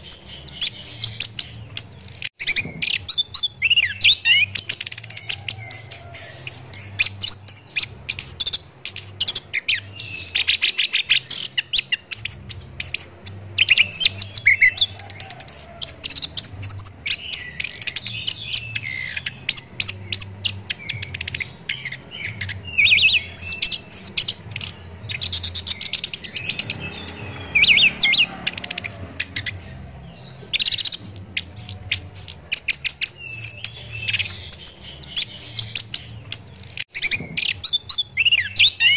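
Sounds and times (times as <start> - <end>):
thrush singing trills: 0.0 - 38.9.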